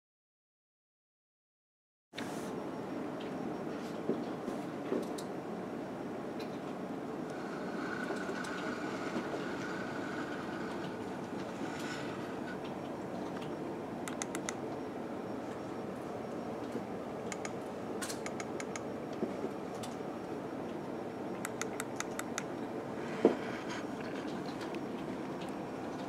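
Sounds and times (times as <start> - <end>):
steady background noise: 2.2 - 26.0.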